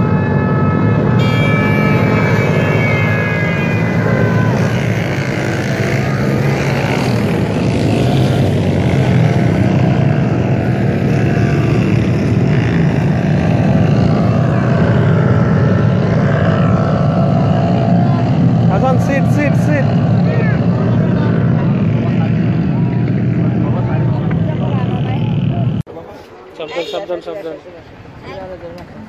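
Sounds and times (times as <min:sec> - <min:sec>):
quad bike engines running: 0:00.0 - 0:25.8.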